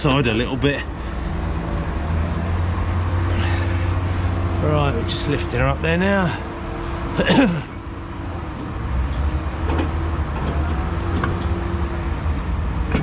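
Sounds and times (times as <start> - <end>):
hydraulic hum: 0.0 - 13.0
truck engine rumble: 0.0 - 13.0.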